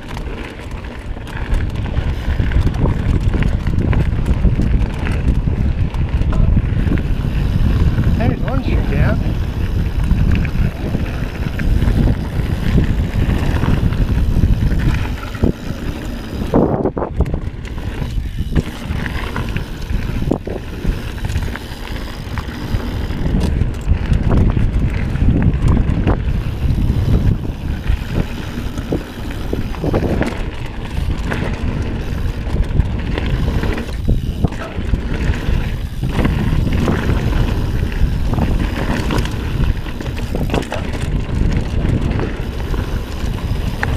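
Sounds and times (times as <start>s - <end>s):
bike knocks and rattles: 0.0s - 43.9s
tyres rolling on dirt trail: 0.0s - 43.9s
wind rumbling on microphone: 0.0s - 43.9s.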